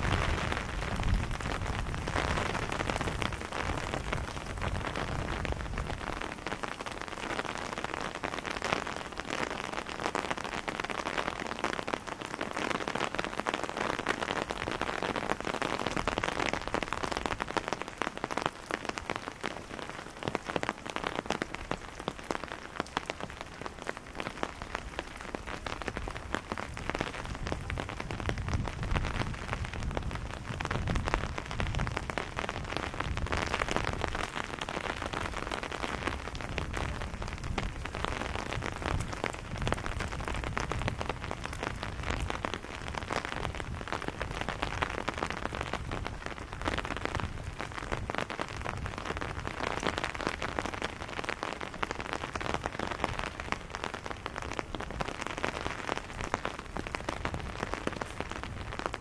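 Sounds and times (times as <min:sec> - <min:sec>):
steady rain patter: 0:00.0 - 0:59.0.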